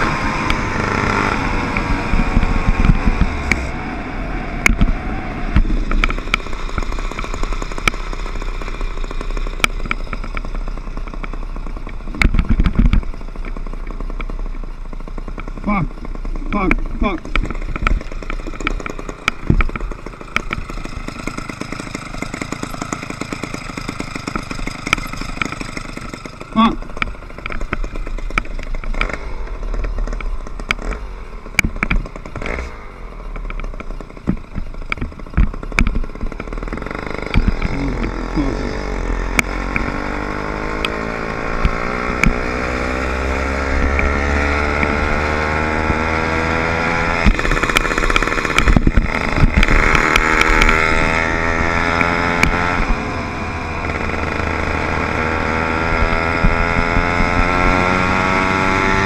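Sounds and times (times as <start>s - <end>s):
two-stroke bicycle engine running: 0.0s - 3.8s, 5.6s - 59.0s
engine knocks and rattles: 0.0s - 59.0s.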